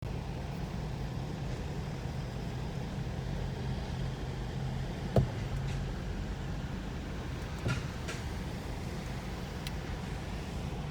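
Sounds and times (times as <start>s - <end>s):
city road traffic rumble: 0.0s - 10.9s.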